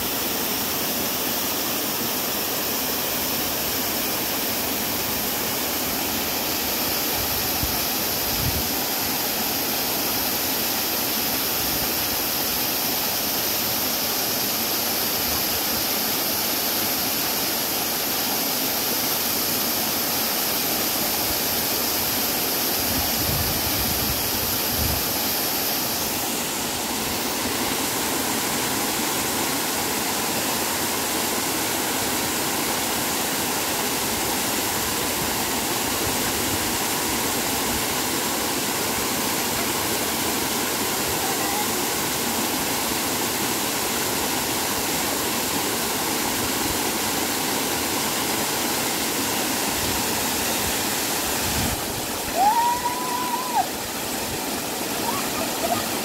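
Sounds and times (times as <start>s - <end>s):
high steady hiss: 0.0s - 56.0s
waterfall rushing over rock: 0.0s - 56.0s.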